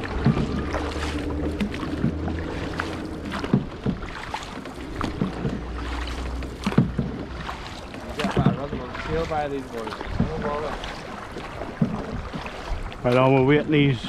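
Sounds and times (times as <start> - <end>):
paddle knocks: 0.0 - 13.7
paddles splashing in water: 0.0 - 14.0.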